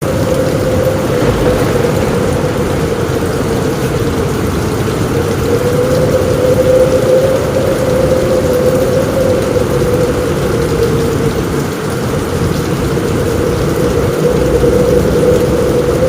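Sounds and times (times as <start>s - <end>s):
heavy rain drumming on a roof: 0.0s - 16.0s.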